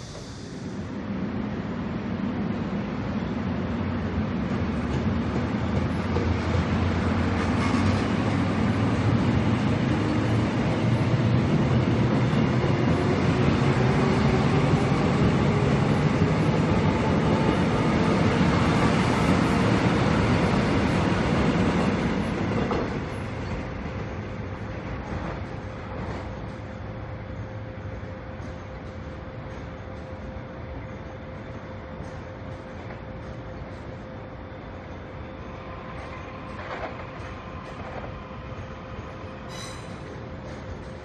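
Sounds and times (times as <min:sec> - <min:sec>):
electric train passing: 0:00.0 - 0:41.0.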